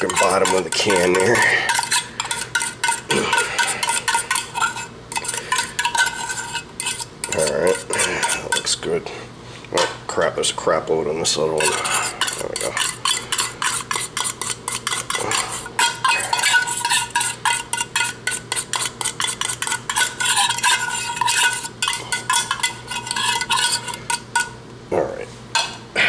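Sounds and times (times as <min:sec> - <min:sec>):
fork scraping inside tin can: 0:00.0 - 0:08.7, 0:11.6 - 0:24.6.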